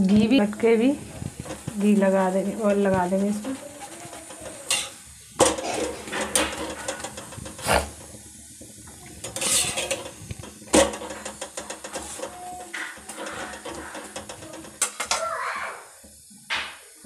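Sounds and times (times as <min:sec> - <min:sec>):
utensils knocking on metal griddle: 0:00.2 - 0:15.4
light scraping on griddle: 0:00.4 - 0:15.4.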